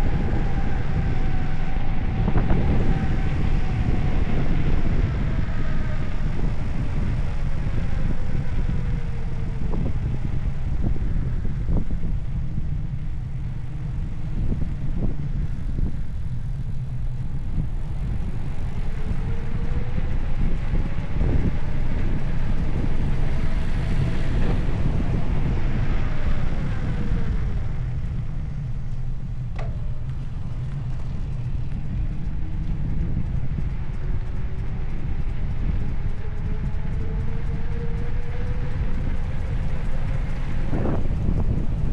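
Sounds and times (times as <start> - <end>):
faint whining tone: 0.0 - 41.9
wind buffeting microphone: 0.0 - 41.9.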